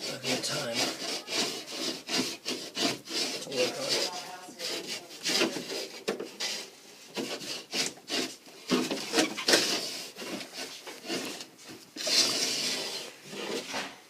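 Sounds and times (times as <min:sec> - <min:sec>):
drywall being cut: 0:00.0 - 0:14.0.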